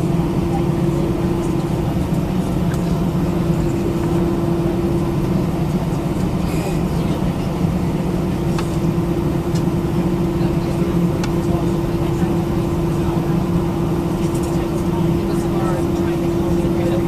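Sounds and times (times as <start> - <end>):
airplane cabin hum: 0.0 - 17.0.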